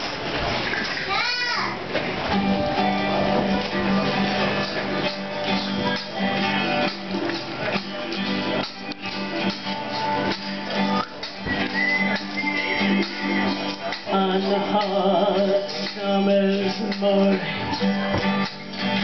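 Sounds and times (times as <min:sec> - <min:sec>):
acoustic guitars strumming: 0:00.0 - 0:19.0
mandolin: 0:02.0 - 0:19.0.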